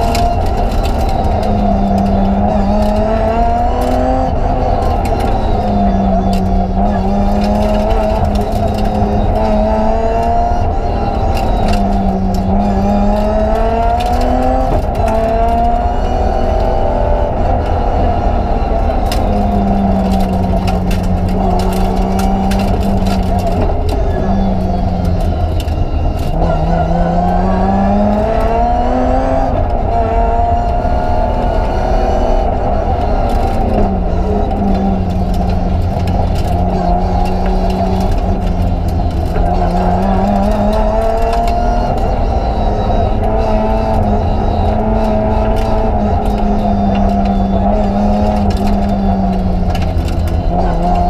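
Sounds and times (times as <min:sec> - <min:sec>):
sharp clicks and knocks: 0:00.0 - 0:16.8, 0:18.6 - 0:51.0
low road rumble: 0:00.0 - 0:51.0
rally car engine from inside cabin: 0:00.0 - 0:51.0.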